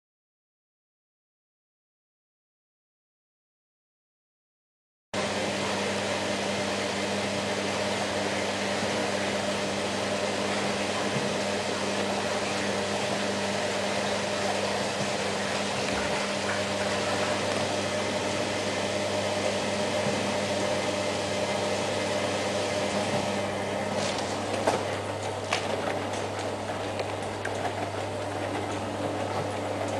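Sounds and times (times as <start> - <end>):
washing machine motor hum: 5.2 - 29.9.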